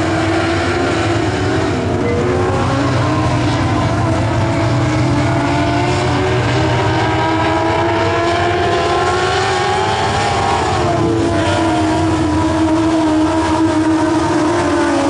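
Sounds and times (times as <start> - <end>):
race car engines running: 0.0 - 15.0.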